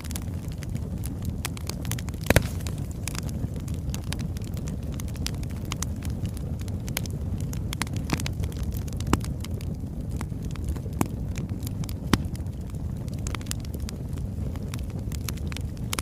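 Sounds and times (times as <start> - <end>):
fire crackling and popping: 0.0 - 16.0
logs burning with low rumble: 0.0 - 16.0.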